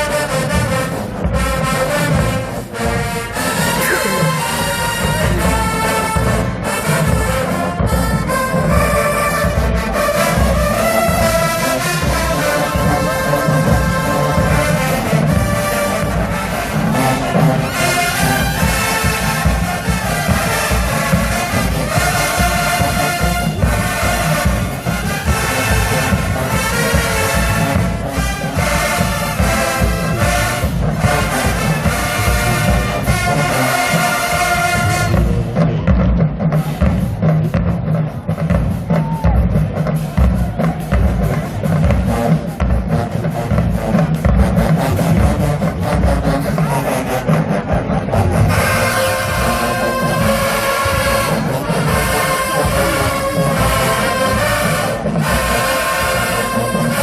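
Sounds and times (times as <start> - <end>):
brass section holding chords: 0.0 - 35.2, 45.2 - 57.0
drums steady beat: 0.0 - 57.0.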